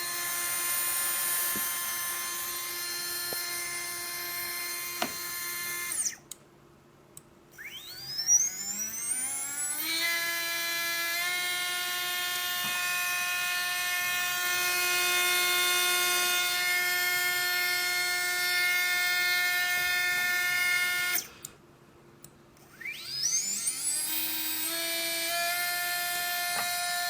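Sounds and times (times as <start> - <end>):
drone motor whining: 0.0 - 6.2, 7.6 - 21.4, 22.6 - 27.0.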